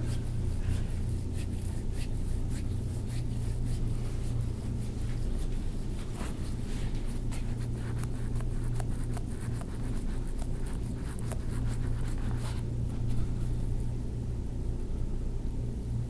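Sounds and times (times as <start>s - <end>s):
hands rubbing skin: 0.0s - 13.6s
steady low hum: 0.0s - 16.0s.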